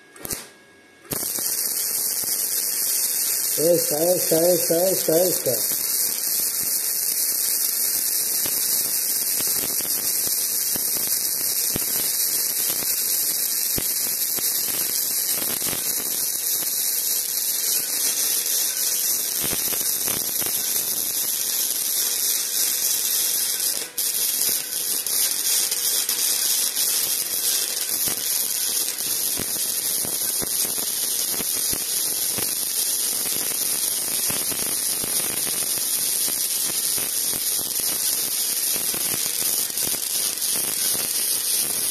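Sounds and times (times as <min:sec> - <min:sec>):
welding arc crackling and hissing: 0:00.0 - 0:41.9.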